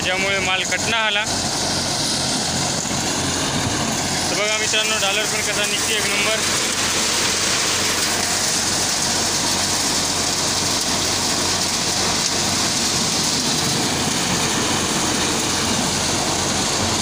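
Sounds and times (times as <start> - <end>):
hiss and rattle of stalks: 0.0 - 17.0
low machine hum: 0.0 - 17.0.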